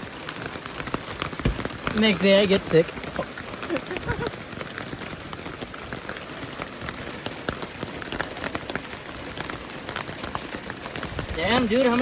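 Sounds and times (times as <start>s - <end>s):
heavy rain falling: 0.0s - 12.0s
sharp raindrop impacts: 0.0s - 12.0s.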